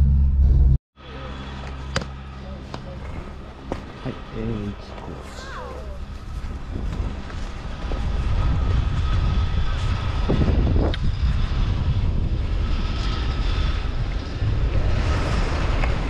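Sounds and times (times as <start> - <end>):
wind rumble on microphone: 2.9 - 16.0.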